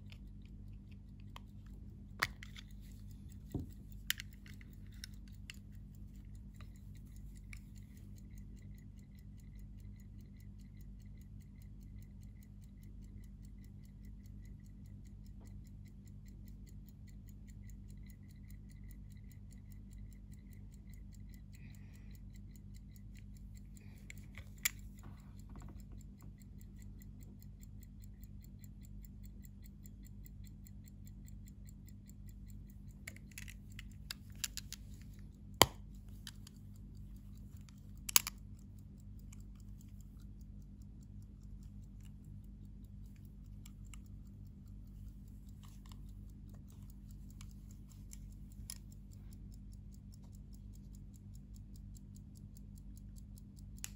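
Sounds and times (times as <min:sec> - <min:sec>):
pocket watch ticking: 0:00.0 - 0:53.9.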